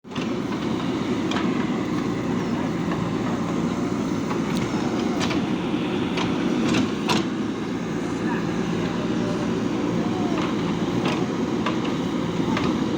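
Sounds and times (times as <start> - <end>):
diesel engine running: 0.1 - 12.9.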